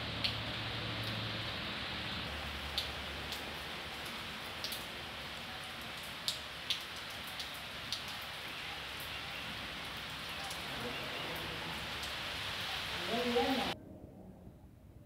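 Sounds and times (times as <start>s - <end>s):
sharp raindrops hitting close by: 0.0s - 13.8s
steady rain: 0.0s - 13.8s.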